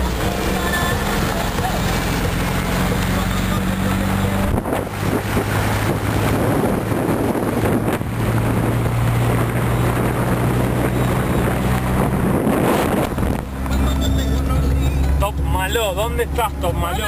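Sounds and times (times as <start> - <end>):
car engine running: 0.0 - 17.0
tyres rumbling on dirt road: 0.0 - 17.0
wind buffeting microphone: 1.1 - 15.2.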